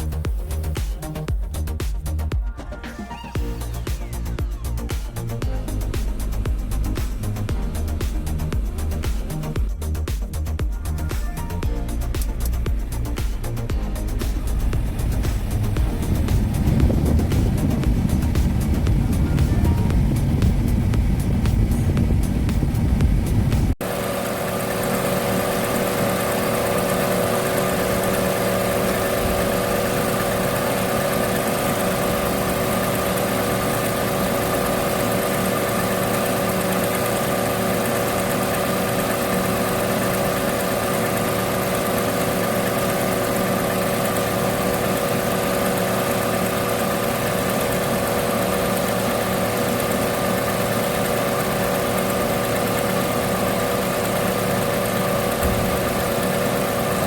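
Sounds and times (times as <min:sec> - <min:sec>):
car engine idling: 0:00.0 - 0:02.4, 0:03.4 - 0:57.0.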